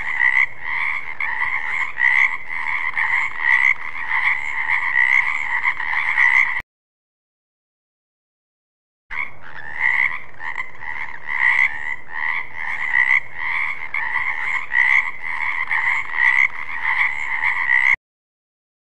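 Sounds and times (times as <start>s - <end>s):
frog croaking: 0.0s - 6.6s, 9.1s - 18.0s.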